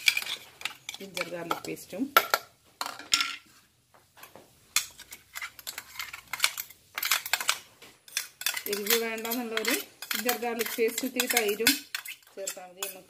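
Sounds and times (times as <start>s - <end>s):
metal spoon clinking and scraping: 0.0s - 3.4s, 4.7s - 13.0s.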